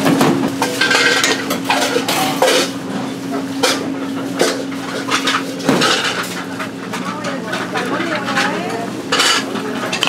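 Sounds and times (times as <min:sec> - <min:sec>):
dishes and utensils clinking: 0:00.0 - 0:02.8, 0:03.4 - 0:10.0.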